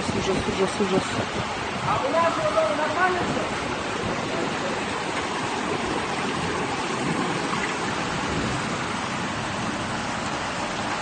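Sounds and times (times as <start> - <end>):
strong storm wind blowing: 0.0 - 10.1.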